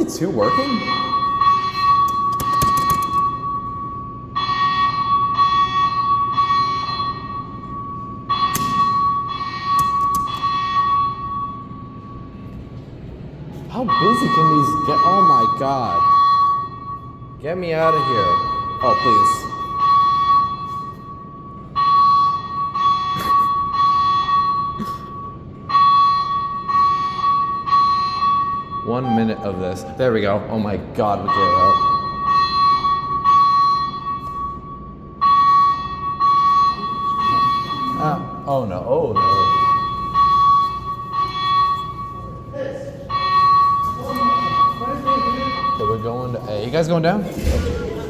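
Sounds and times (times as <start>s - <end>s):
fire alarm beeping: 0.0s - 48.0s.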